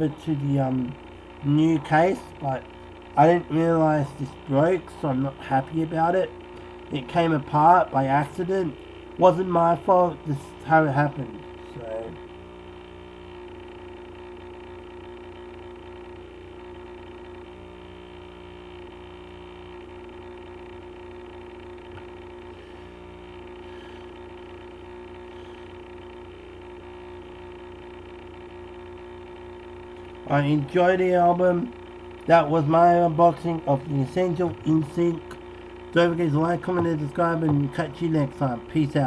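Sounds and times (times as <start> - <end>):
electrical hum: 0.0 - 39.0
faint constant tones: 0.0 - 39.0.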